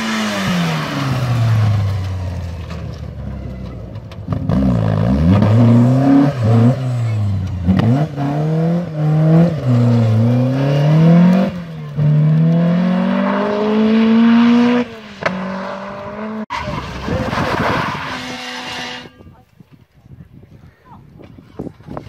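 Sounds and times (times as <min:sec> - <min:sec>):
rally car engine revving: 0:00.0 - 0:19.2.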